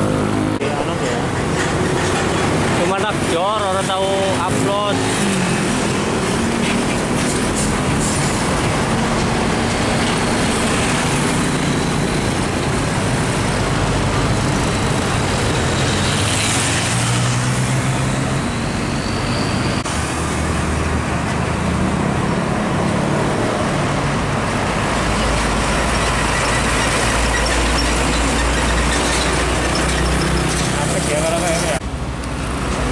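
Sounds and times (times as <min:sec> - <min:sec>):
heavy trucks driving past: 0:00.0 - 0:32.9
tyre and traffic noise: 0:00.0 - 0:32.9.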